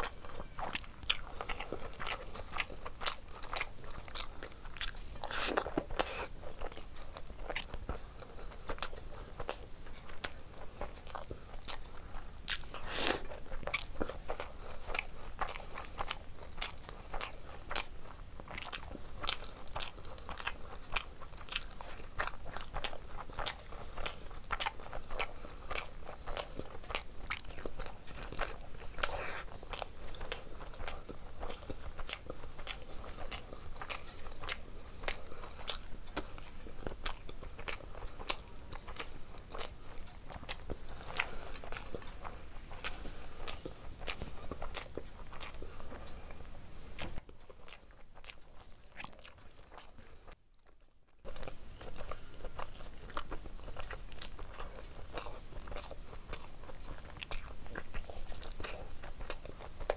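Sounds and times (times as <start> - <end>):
close chewing with mouth clicks: 0.0 - 59.9.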